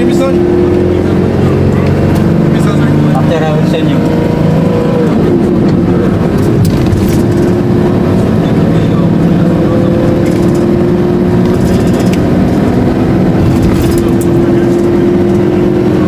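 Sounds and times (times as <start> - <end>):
road and wind noise: 0.0 - 16.0
vehicle engine humming: 0.0 - 16.0.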